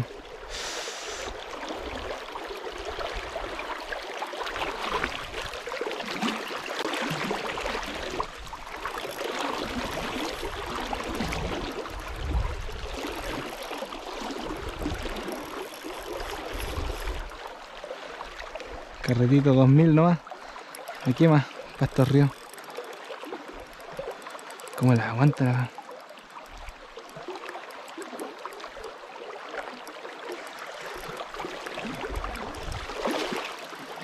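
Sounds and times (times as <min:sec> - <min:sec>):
low water rumbles: 0:00.0 - 0:34.0.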